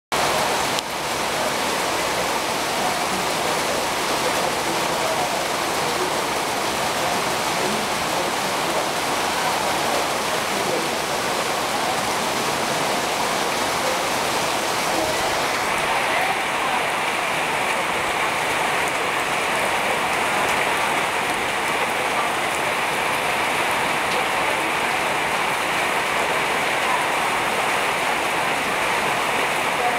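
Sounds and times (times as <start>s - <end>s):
heavy rain on pavement: 0.1s - 29.9s.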